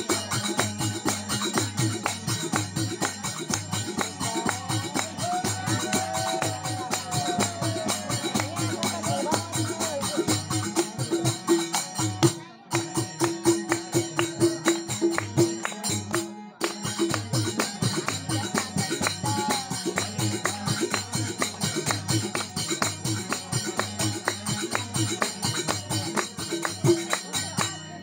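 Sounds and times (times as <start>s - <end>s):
devotional music with drums: 0.0s - 27.8s.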